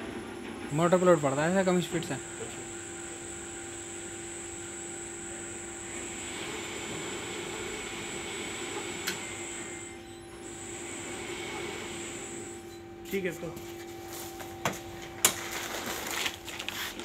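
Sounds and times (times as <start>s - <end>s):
conveyor mechanical hum: 0.0s - 17.0s.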